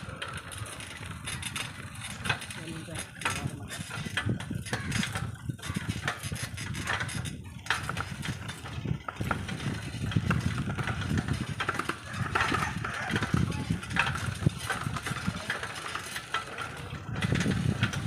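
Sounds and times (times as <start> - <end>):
knocks and rattles: 0.0 - 18.0
road noise rumble: 0.0 - 18.0.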